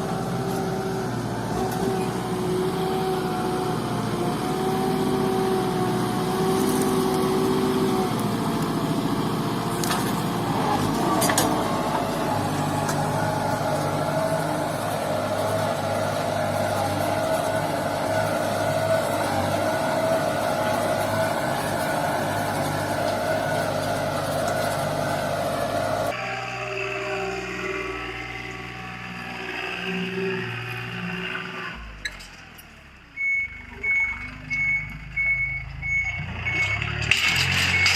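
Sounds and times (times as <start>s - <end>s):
small tractor engine running: 0.0s - 33.1s.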